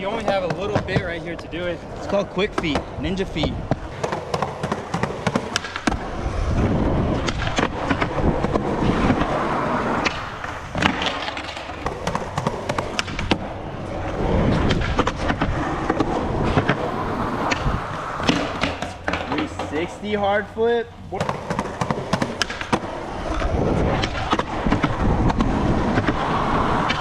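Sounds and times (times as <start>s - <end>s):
skateboard clacks and knocks: 0.0s - 20.3s, 21.1s - 27.0s
skateboard wheels rolling on pavement: 0.0s - 27.0s.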